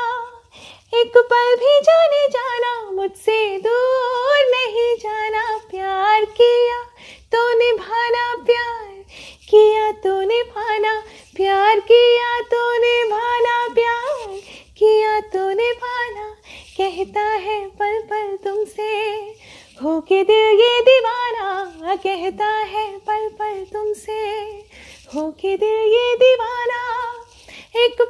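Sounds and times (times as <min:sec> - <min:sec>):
woman singing unaccompanied: 0:00.0 - 0:28.0.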